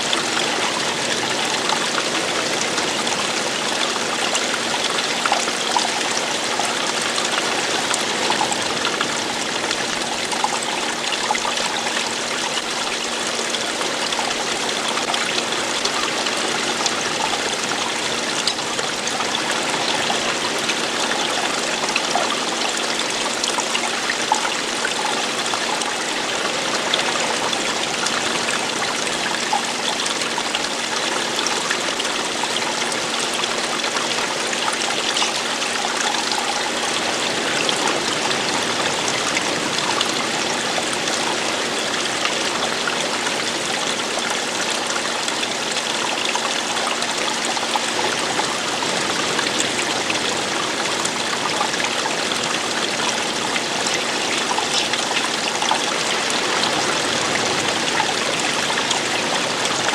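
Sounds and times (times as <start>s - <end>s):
water falling and splashing: 0.0s - 59.9s.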